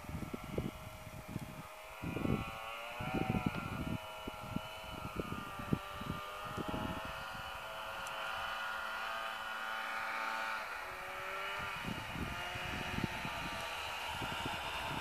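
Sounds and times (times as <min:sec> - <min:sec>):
snowmobile engine whining: 0:00.0 - 0:15.0.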